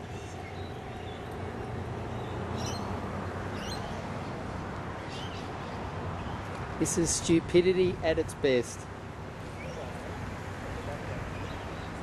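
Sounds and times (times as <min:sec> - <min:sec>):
highway traffic rushing: 0:00.0 - 0:12.0.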